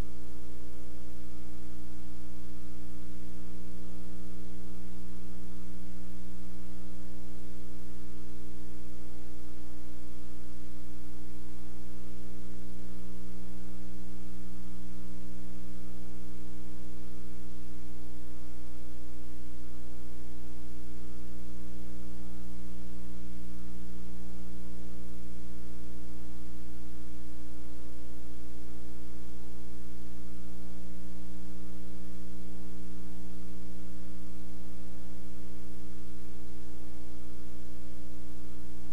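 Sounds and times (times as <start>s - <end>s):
electrical mains hum: 0.0s - 38.9s
faint hiss: 0.0s - 38.9s.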